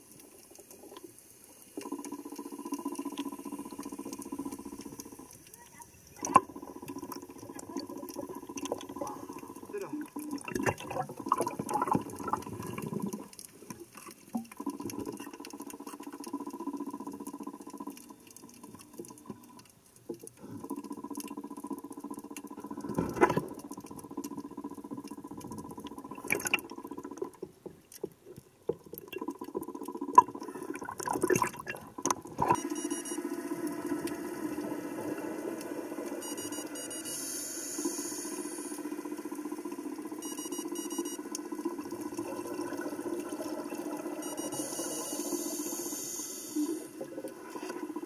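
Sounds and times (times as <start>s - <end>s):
underwater crackling and clicking: 0.0s - 48.0s
underwater low hum: 0.0s - 48.0s.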